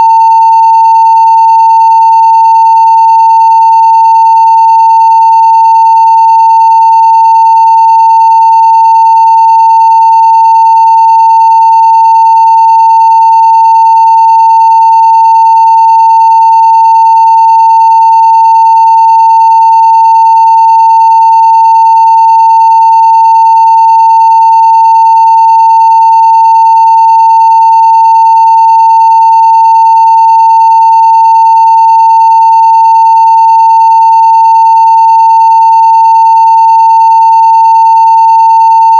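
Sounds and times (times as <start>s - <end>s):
loud sine-wave test tone: 0.0s - 38.9s.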